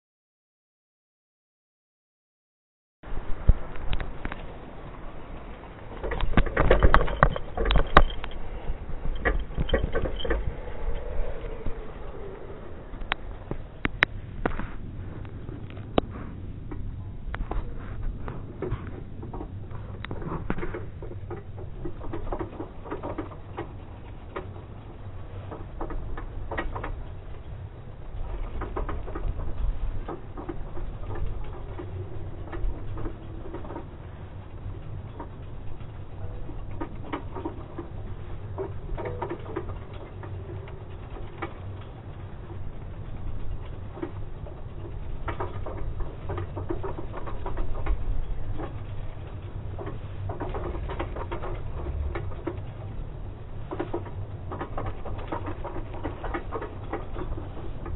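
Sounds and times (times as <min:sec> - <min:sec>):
low steady rumble: 0:03.0 - 0:57.9
bicycle rattling over paving: 0:03.6 - 0:15.9, 0:17.6 - 0:57.9.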